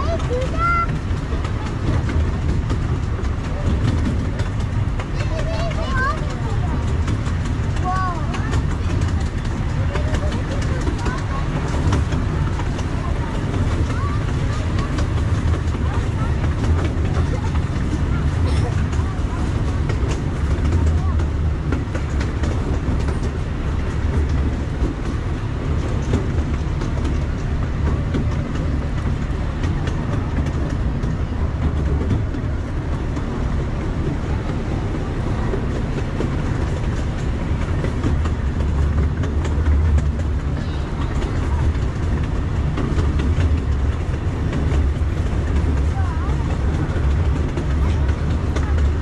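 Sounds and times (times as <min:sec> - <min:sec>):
miniature train rumbling: 0:00.0 - 0:49.0
wheels clicking over rail joints: 0:00.0 - 0:49.0.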